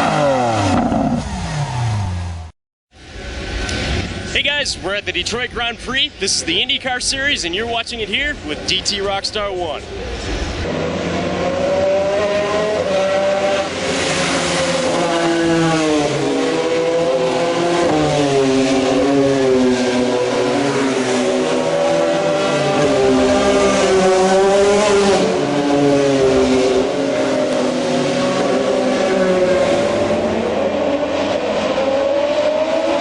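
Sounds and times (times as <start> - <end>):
race car engines passing at high revs: 0.0 - 33.0.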